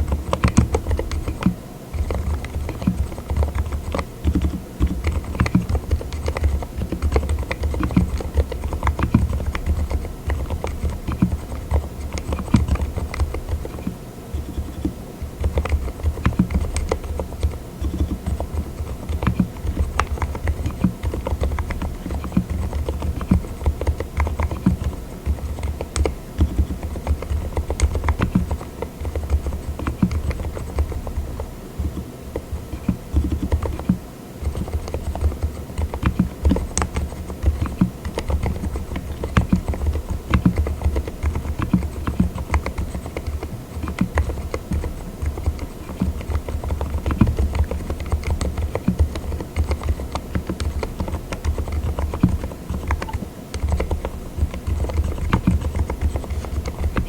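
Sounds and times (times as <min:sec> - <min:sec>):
typing on mechanical keyboard: 0:00.0 - 0:57.0.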